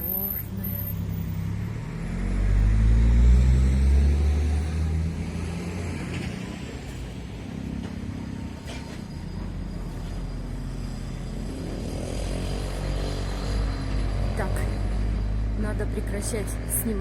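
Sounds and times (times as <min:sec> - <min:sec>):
street noise: 0:00.0 - 0:17.0
vehicle passing by: 0:01.0 - 0:08.6, 0:10.4 - 0:17.0.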